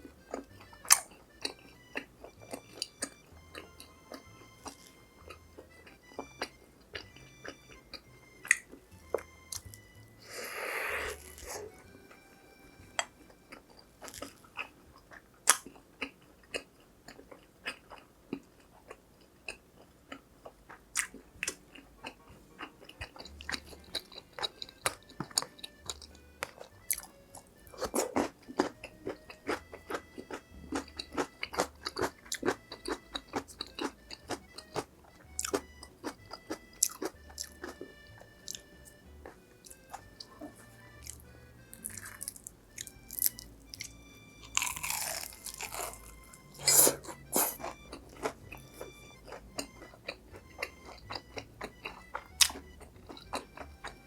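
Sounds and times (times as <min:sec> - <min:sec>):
crunching crispy fried food: 0:00.0 - 0:12.2, 0:12.9 - 0:54.0.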